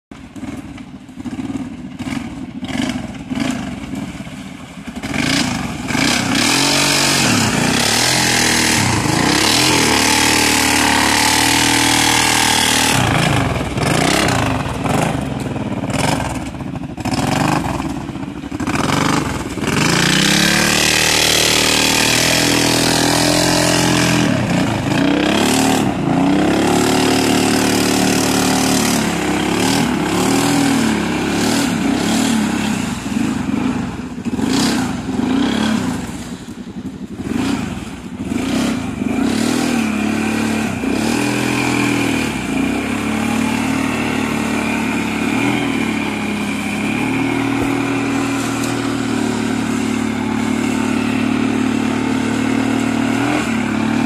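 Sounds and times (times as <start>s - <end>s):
atv engine revving: 0.2s - 54.0s
tyres splashing water and mud: 0.3s - 54.0s.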